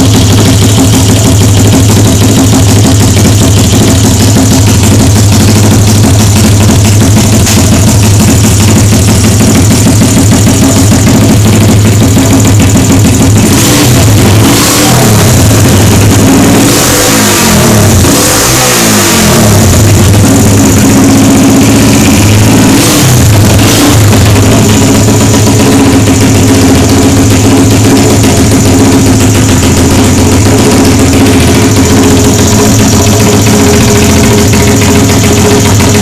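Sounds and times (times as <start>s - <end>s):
motorcycle engine idling: 0.0s - 36.0s
small motorcycle engine revving: 0.0s - 36.0s.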